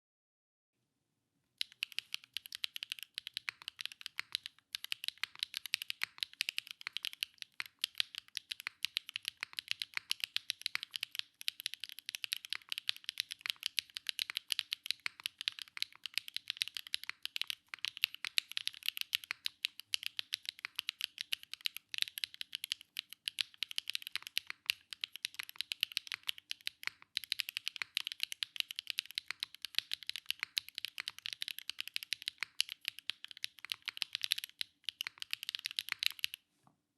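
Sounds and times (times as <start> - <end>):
mechanical keyboard typing: 1.6 - 36.4.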